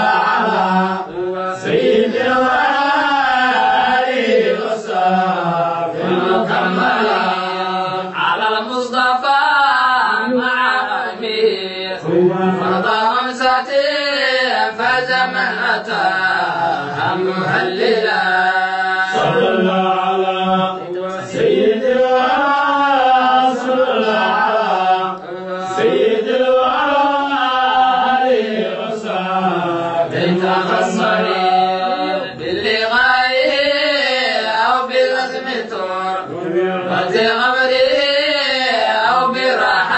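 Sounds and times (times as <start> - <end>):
man chanting devotional poem: 0.0 - 39.9.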